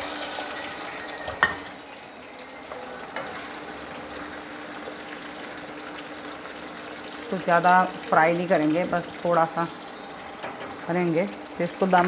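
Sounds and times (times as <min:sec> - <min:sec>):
potatoes sizzling in hot oil: 0:00.0 - 0:12.0
skimmer knocking pan: 0:00.0 - 0:12.0.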